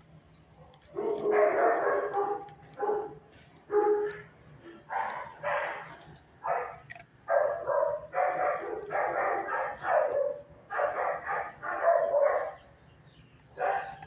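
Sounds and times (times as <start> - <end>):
dog barking: 0.7 - 4.2, 4.9 - 12.7, 13.6 - 14.0.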